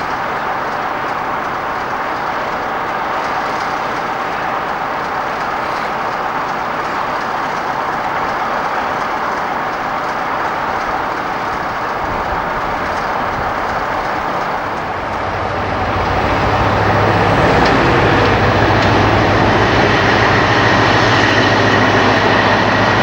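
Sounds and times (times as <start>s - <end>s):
train passing rumble: 0.0s - 23.0s.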